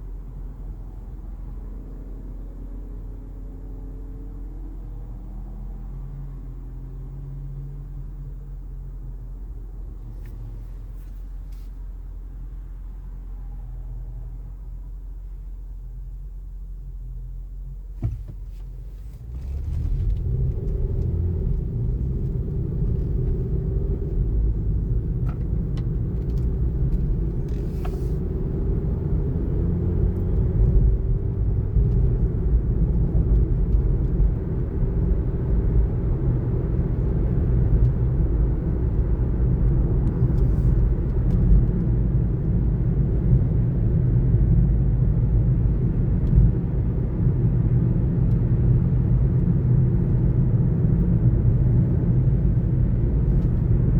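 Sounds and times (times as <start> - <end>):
car road rumble: 0.0 - 53.9.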